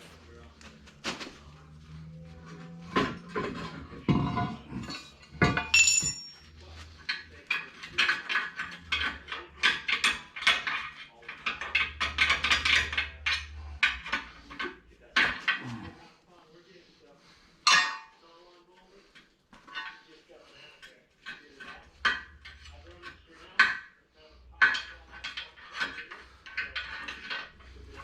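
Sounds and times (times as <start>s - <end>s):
metal parts and tools clanking: 0.0s - 16.0s, 17.6s - 18.2s, 19.6s - 20.1s, 20.7s - 28.0s.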